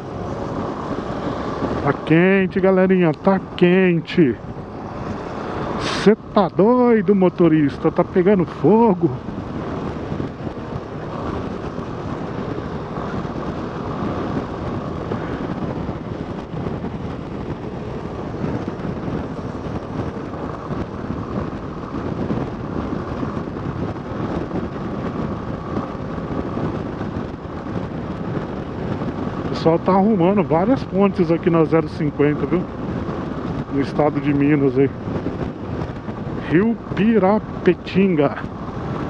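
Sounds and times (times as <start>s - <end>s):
motorcycle engine cruising: 0.0s - 39.0s
wind rushing over microphone: 0.0s - 39.0s.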